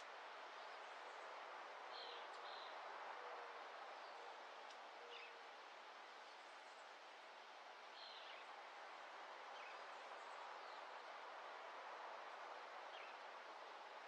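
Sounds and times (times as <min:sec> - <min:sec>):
soft steady hiss: 0:00.0 - 0:14.0.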